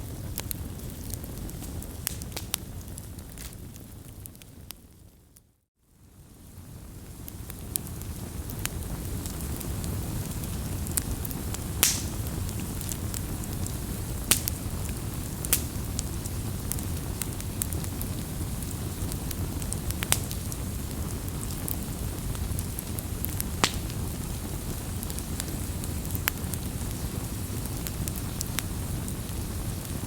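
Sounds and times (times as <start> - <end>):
fire crackling pops: 0.0 - 5.5, 6.2 - 30.0
low rumble of campfire: 0.0 - 30.0.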